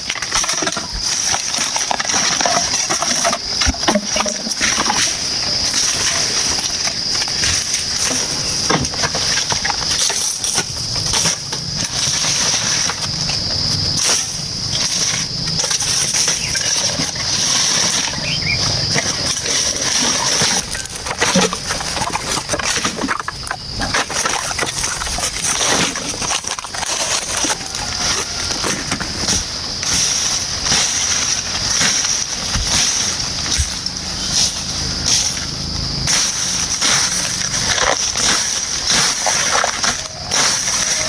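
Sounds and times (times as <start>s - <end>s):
insect drone: 0.0s - 41.0s
knocks and crackles: 0.0s - 41.0s.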